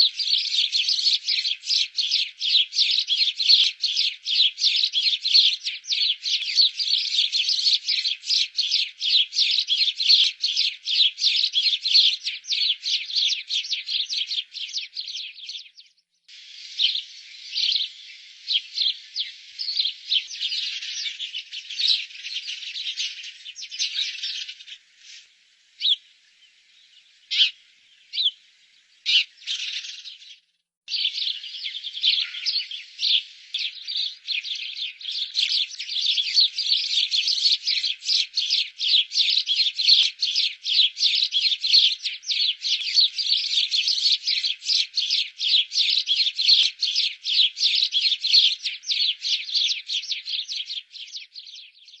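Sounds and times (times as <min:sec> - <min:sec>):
sparrows chirping: 0:00.0 - 0:52.0.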